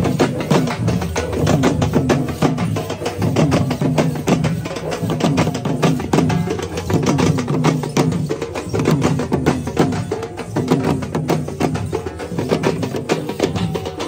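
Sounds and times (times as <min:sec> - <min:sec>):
drums beaten in fast rhythm: 0:00.0 - 0:14.0.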